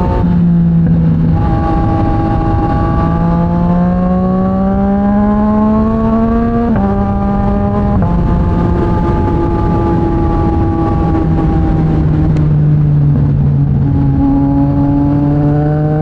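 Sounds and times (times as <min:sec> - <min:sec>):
motorcycle engine accelerating: 0:00.0 - 0:16.0
wind noise rushing: 0:00.0 - 0:16.0.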